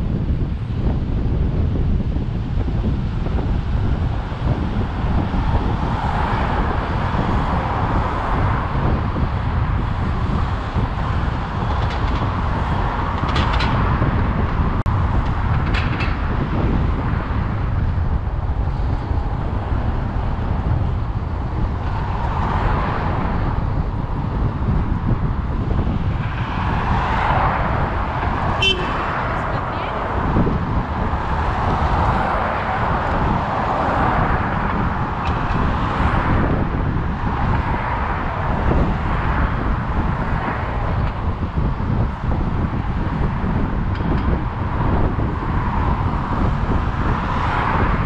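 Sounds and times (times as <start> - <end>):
vehicles passing: 0.0 - 48.0
wind rumble on microphone: 0.0 - 48.0.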